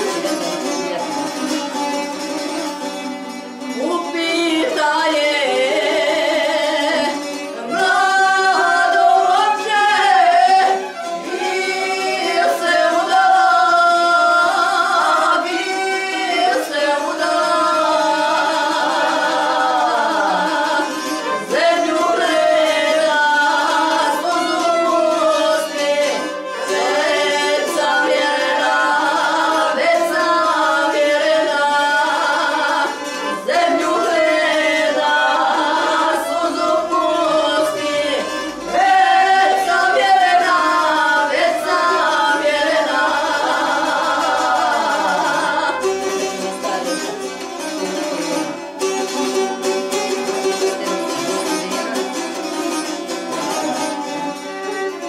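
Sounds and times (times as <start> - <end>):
plucked string instrument: 0.0 - 55.0
two women singing folk song: 0.0 - 55.0
violin: 0.0 - 55.0.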